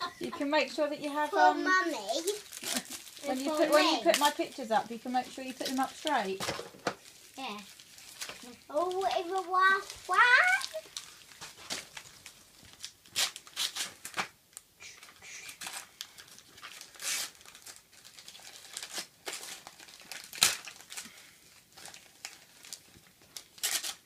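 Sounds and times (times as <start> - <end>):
wrapping paper tearing and crumpling: 1.6 - 24.0.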